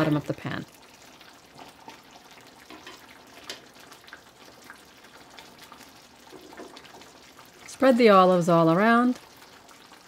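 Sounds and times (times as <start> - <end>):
tomato sauce simmering with pops: 0.0 - 10.0.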